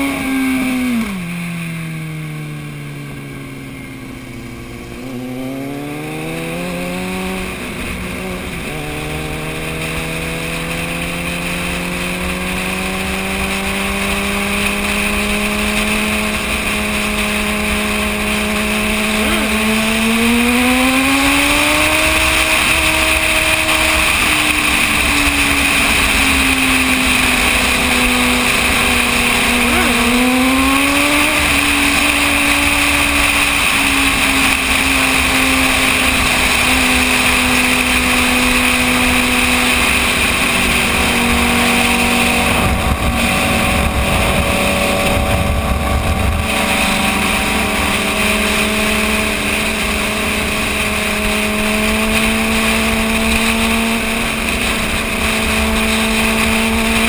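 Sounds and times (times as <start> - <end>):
motorcycle engine running: 0.0 - 57.0
wind noise: 2.7 - 57.0.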